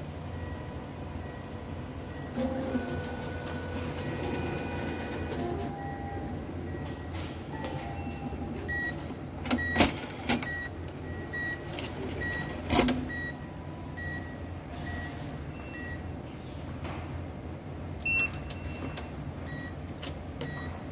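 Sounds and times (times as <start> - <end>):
machine mechanical hum: 0.0 - 20.9.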